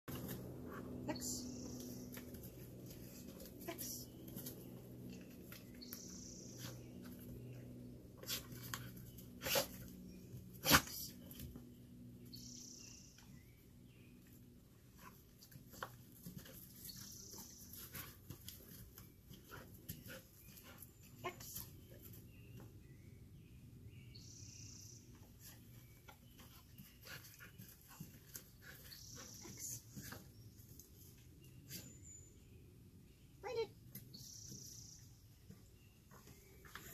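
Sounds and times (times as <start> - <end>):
low steady hum: 0.1 - 36.9.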